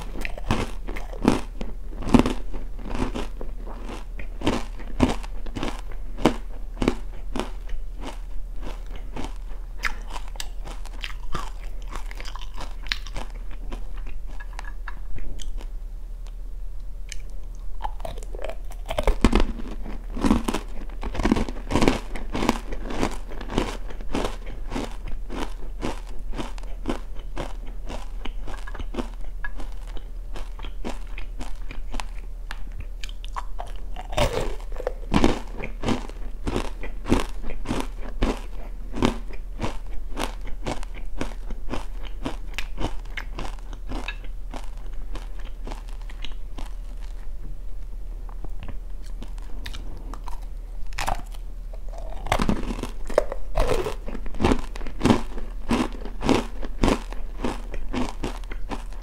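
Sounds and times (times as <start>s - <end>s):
crisp crunching of snack: 0.0s - 15.7s, 17.1s - 47.4s, 48.3s - 59.0s.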